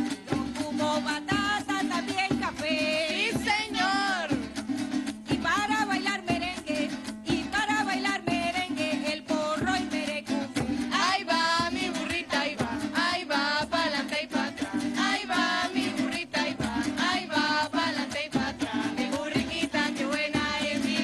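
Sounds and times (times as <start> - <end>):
voices singing: 0.0 - 4.6, 5.8 - 21.0
strummed guitars: 0.0 - 21.0.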